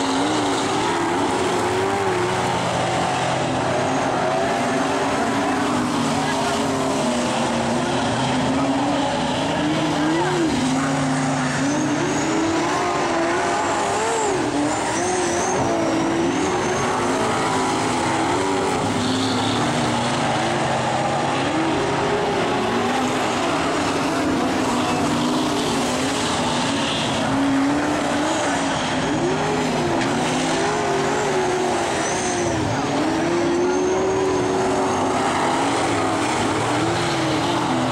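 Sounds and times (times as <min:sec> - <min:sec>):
race car engines revving: 0:00.0 - 0:37.9.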